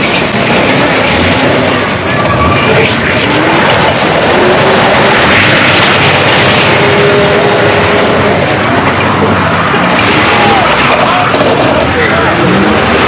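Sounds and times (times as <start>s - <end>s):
car engines revving hard: 0.0s - 13.0s
tires spinning on asphalt: 0.0s - 13.0s.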